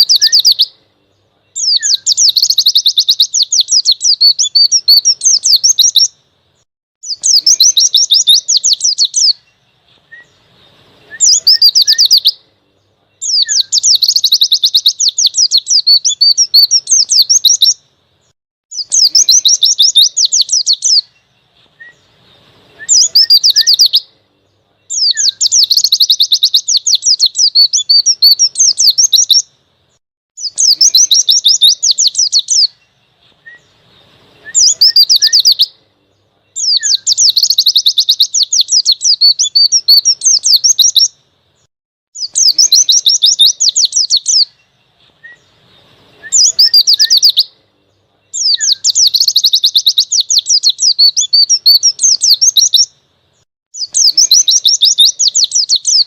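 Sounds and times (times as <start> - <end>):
bird rapid high chirping song: 0.0 - 56.0.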